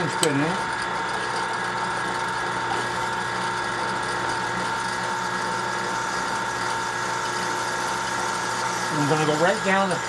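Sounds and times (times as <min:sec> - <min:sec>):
drill press whirring: 0:00.0 - 0:10.0.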